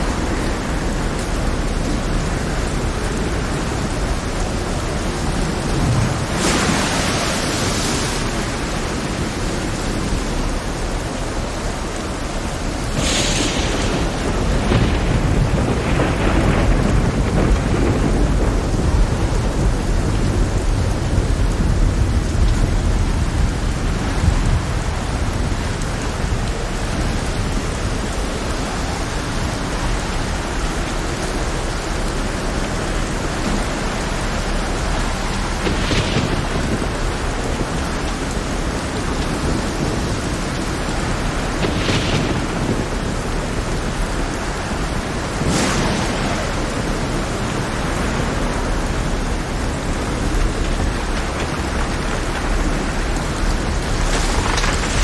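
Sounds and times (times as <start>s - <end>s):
heavy rain pouring: 0.0s - 55.0s
rolling thunder: 0.0s - 55.0s.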